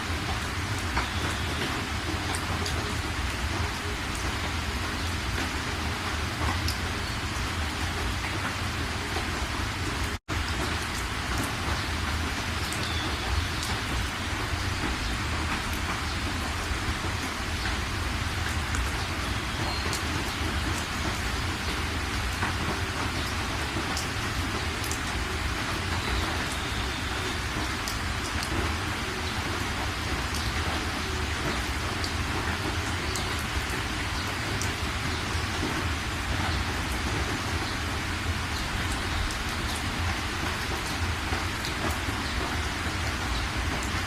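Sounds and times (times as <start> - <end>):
raindrops ticking: 0.0 - 44.0
steady rain: 0.0 - 44.0.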